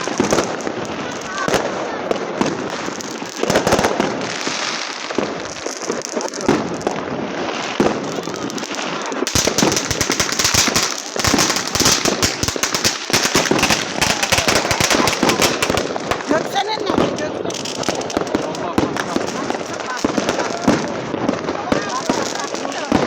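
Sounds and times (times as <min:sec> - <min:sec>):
fireworks popping and crackling: 0:00.0 - 0:23.0.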